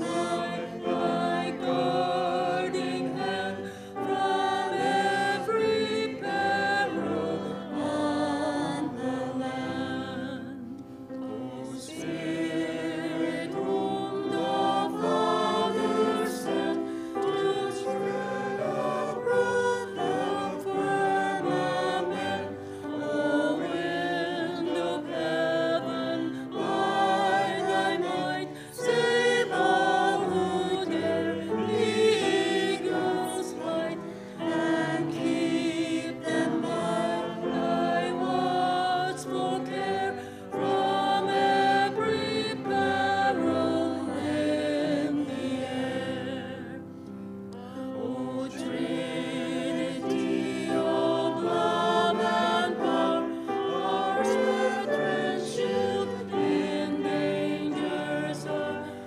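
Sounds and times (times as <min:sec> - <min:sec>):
choir singing worship song: 0:00.0 - 0:59.0.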